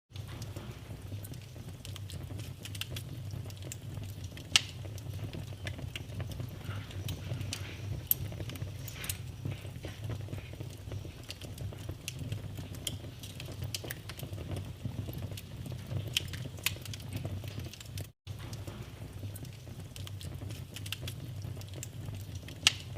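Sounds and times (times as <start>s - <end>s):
wood fire crackling and popping: 0.1s - 22.9s.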